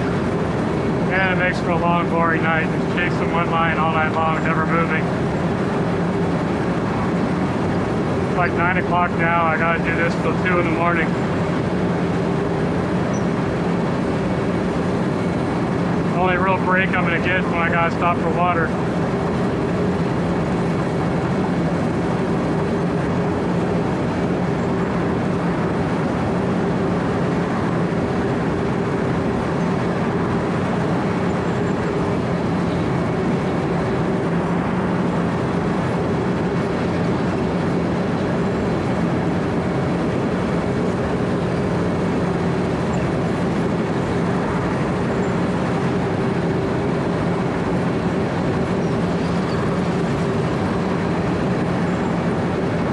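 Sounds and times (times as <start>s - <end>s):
milling machine engine drone: 0.0s - 52.9s.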